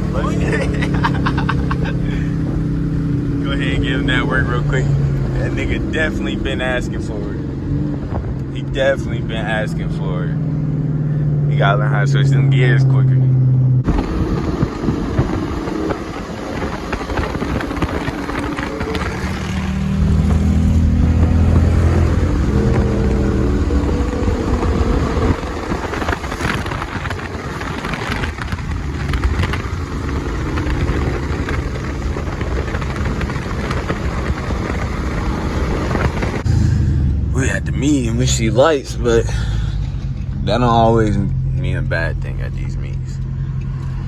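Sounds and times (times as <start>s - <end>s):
car engine running: 0.0s - 44.0s
road and wind noise: 0.0s - 44.0s.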